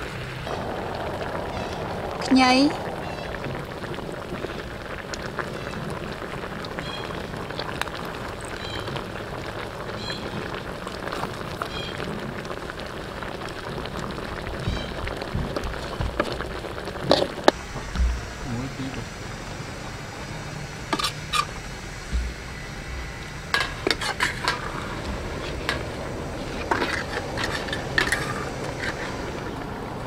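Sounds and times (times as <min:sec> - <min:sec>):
sauce bubbling and sizzling in a wok: 0:00.0 - 0:30.0.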